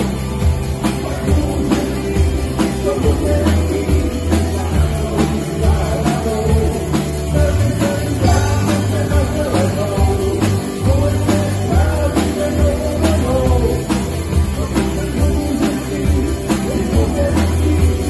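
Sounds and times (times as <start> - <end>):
drum kit beat: 0.0 - 18.0
heavy bass guitar: 0.0 - 18.0
live rock band: 0.0 - 18.0.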